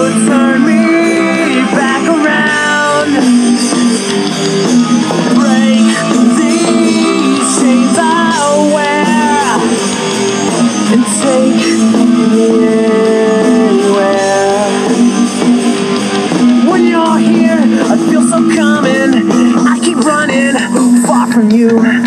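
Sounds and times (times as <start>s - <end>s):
pitch-bending melody line: 0.0s - 21.8s
rock band playing: 0.0s - 22.0s.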